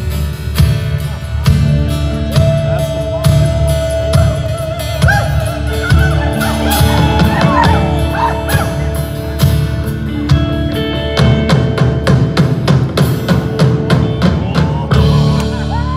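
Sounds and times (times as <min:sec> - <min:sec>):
bass: 0:00.0 - 0:15.9
drums: 0:00.0 - 0:15.9
electric guitars: 0:00.0 - 0:15.9.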